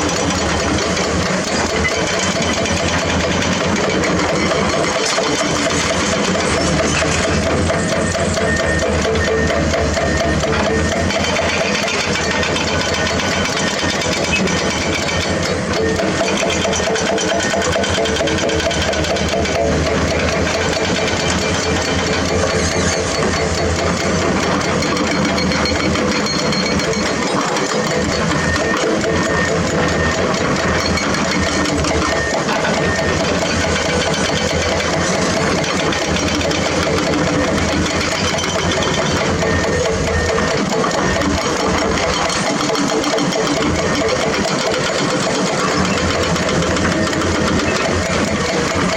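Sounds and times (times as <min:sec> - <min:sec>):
construction machinery engine rattle: 0:00.0 - 0:48.9.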